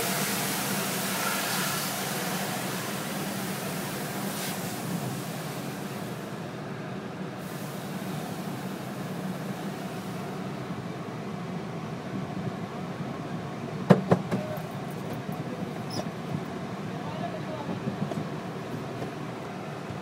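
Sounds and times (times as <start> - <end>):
car wash rumble and hiss: 0.0 - 20.0.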